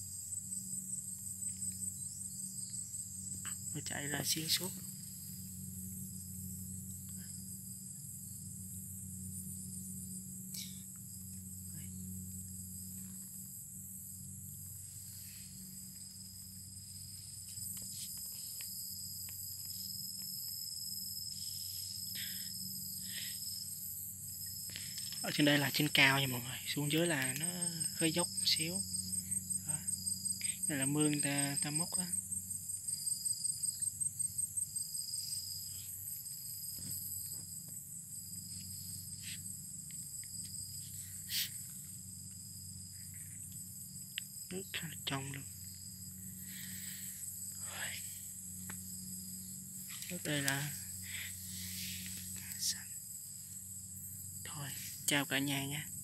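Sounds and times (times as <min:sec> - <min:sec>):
insects chirping: 0:00.0 - 0:56.0
low steady hum: 0:00.0 - 0:56.0.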